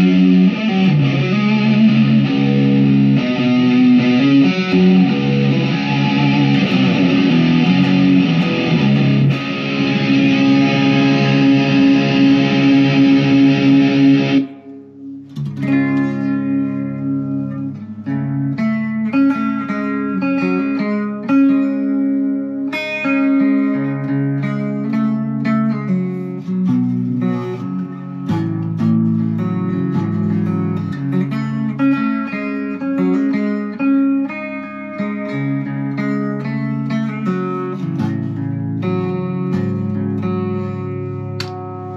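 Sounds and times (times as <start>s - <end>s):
electric guitar through an amp: 0.0s - 41.9s.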